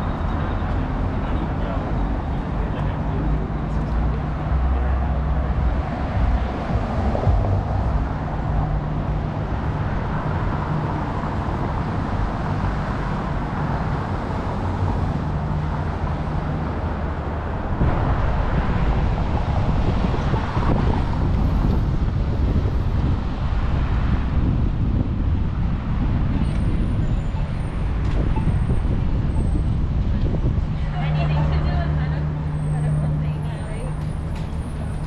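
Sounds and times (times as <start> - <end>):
cars passing: 0.0 - 35.0
vehicle engines running: 0.0 - 35.0.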